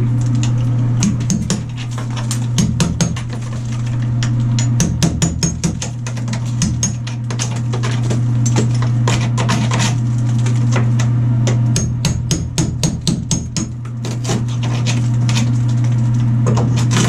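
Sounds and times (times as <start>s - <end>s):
steady low hum: 0.0s - 17.0s
hammer chipping tile and mortar: 1.0s - 17.0s.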